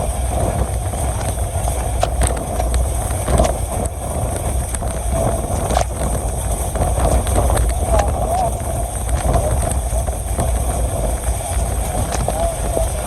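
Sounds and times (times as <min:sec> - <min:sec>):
rushing wind: 0:00.0 - 0:13.0
train rumbling along track: 0:00.0 - 0:13.0
wheels clicking on rails: 0:00.0 - 0:13.0.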